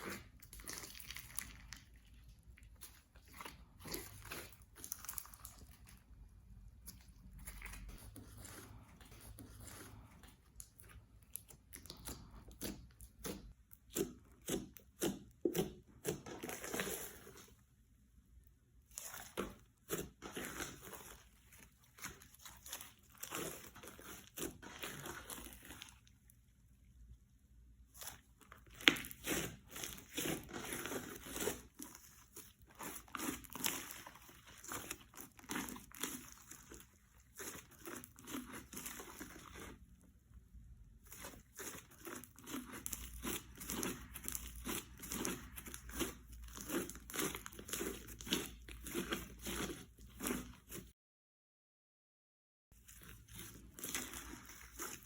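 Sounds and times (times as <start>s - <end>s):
slime squishing and crackling: 0.0s - 50.9s, 52.8s - 55.0s.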